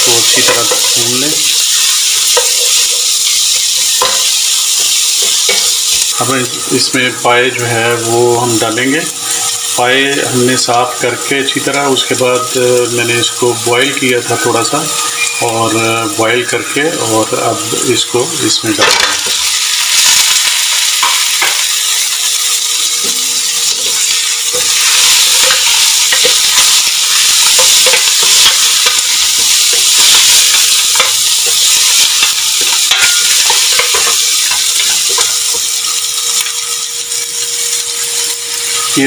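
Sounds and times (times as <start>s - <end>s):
meat sizzling in hot oil: 0.0s - 39.0s.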